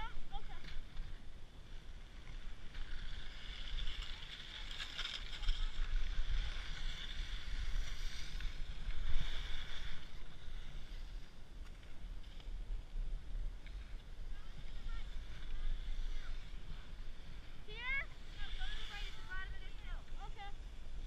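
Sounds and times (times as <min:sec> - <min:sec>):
skis scraping on packed snow: 0:00.0 - 0:21.0.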